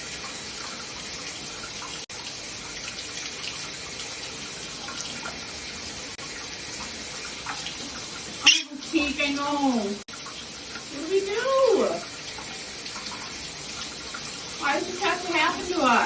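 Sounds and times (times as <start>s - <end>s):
water running from a tap: 0.0s - 16.0s.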